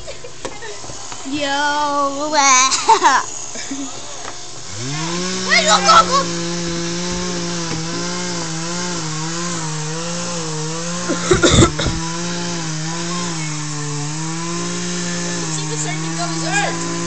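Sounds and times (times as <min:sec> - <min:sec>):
chainsaw cutting into tree: 0:00.5 - 0:17.0.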